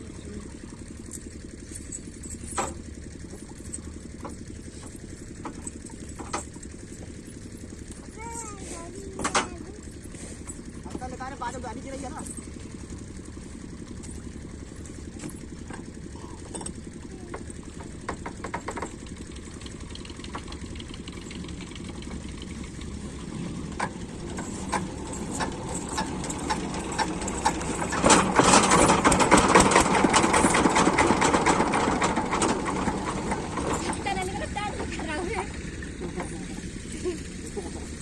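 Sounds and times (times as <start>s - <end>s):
diesel pump engine knocking: 0.0s - 38.0s.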